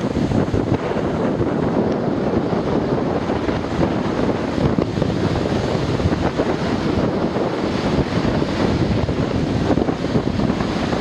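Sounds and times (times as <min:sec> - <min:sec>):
waves breaking on a beach: 0:00.0 - 0:11.0
wind buffeting the microphone: 0:00.0 - 0:11.0.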